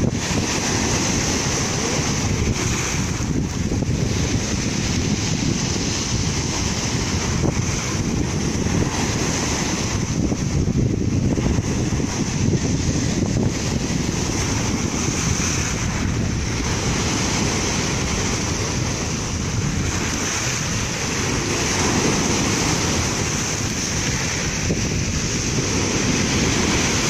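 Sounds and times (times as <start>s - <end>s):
surf breaking on pebble beach: 0.0s - 27.0s.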